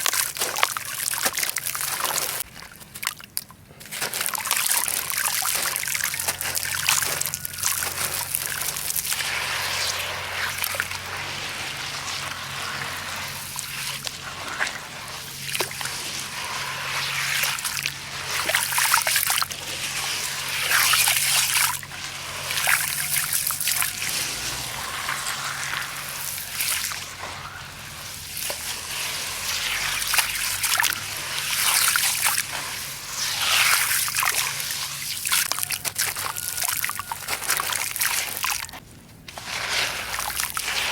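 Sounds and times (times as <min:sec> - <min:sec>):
falling grain trickles: 0:00.0 - 0:40.9
sand and concrete crumbling: 0:00.0 - 0:40.9.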